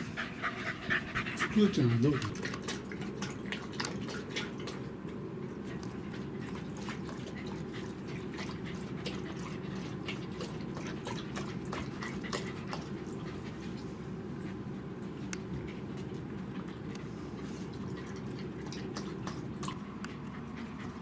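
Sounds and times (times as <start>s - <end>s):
dog lapping water from bowl: 0.0s - 21.0s
low room hum: 0.0s - 21.0s.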